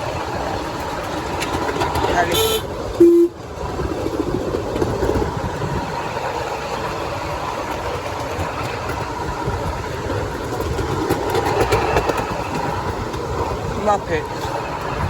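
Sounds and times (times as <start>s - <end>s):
miniature train running on track: 0.0s - 15.0s.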